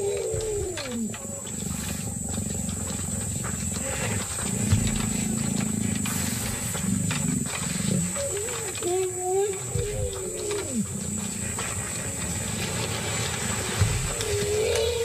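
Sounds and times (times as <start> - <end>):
hippos bellowing and grunting: 0.0 - 15.0.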